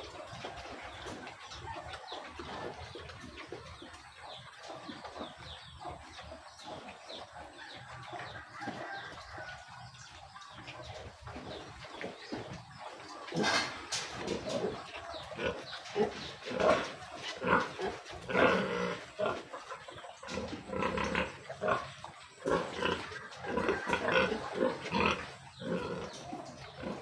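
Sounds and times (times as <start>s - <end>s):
pigs grunting: 0.0s - 27.0s.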